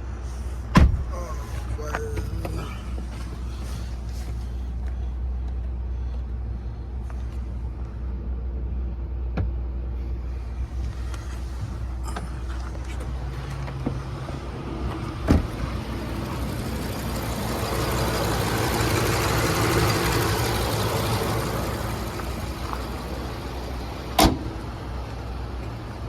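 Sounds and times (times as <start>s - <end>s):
truck engine running: 0.1s - 26.0s.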